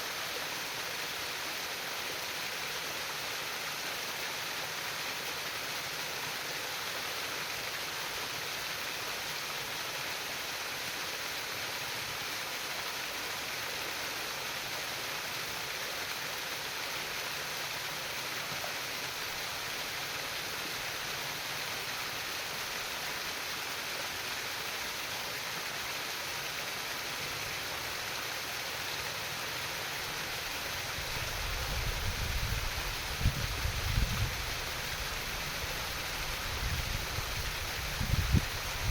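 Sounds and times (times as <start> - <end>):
stream water babbling and splashing: 0.0 - 38.9.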